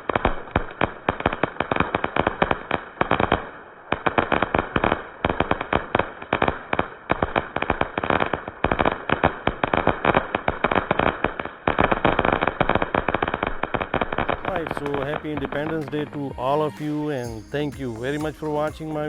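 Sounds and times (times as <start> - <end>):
fireworks exploding and crackling: 0.0 - 19.0.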